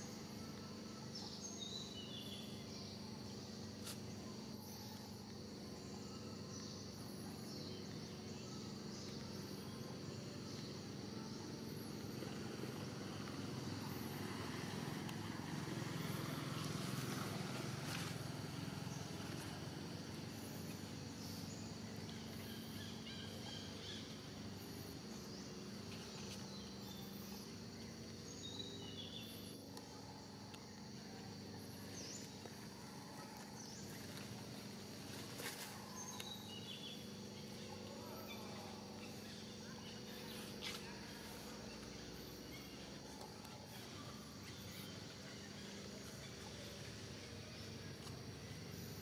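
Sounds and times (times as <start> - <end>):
high insect drone: 0.0 - 49.0.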